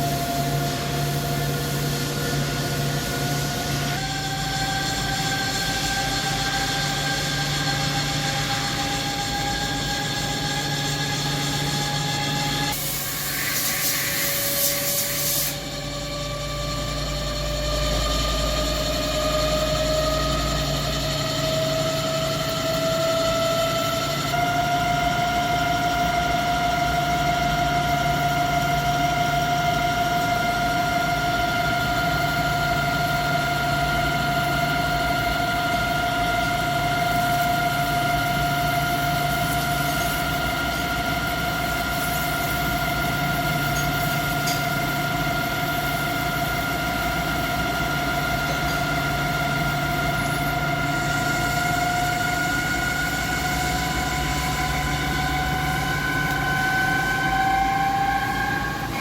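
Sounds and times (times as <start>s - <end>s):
lathe whining: 0.0s - 59.0s
low mechanical hum: 0.0s - 59.0s.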